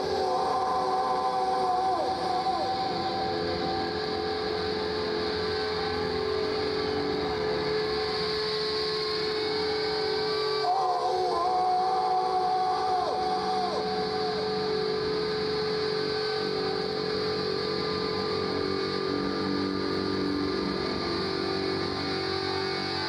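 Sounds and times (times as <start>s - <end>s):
crowd noise: 0.0s - 23.0s
electric guitar amplifier feedback drone: 0.0s - 23.0s.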